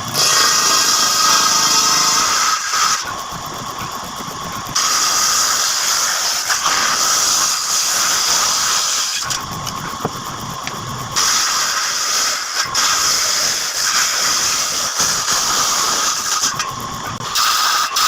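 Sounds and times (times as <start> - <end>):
power tool hissing: 0.0 - 18.0.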